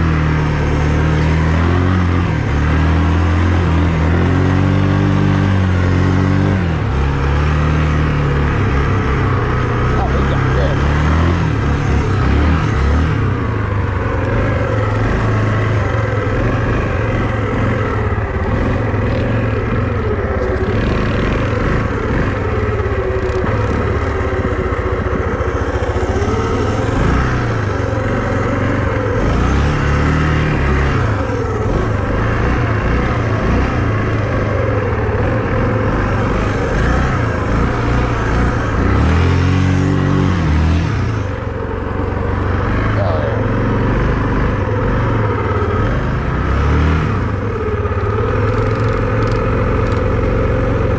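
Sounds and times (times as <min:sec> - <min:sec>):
vehicle engine revving: 0:00.0 - 0:50.9.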